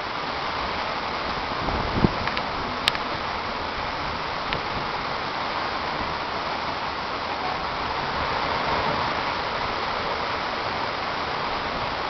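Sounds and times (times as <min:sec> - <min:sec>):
heavy rain pouring: 0:00.0 - 0:12.0
strong wind: 0:00.0 - 0:12.0.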